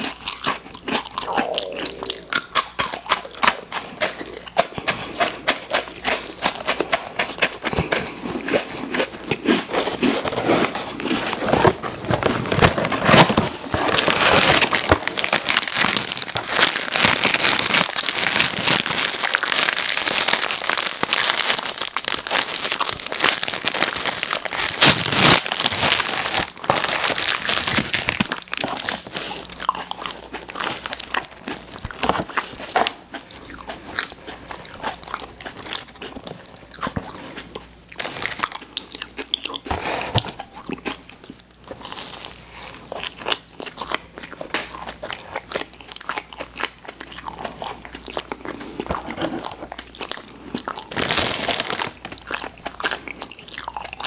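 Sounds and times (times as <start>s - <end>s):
candy wrappers crinkling: 0.0s - 54.0s.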